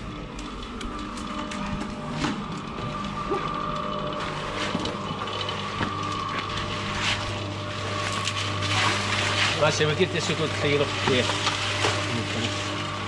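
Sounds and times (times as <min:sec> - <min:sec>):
electric cement mixer running: 0:00.0 - 0:13.0.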